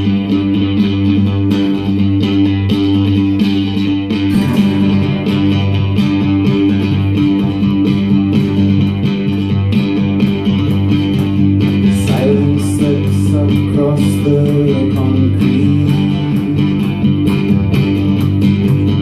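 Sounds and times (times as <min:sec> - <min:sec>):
live band playing: 0:00.0 - 0:19.0
low bass line: 0:00.0 - 0:19.0.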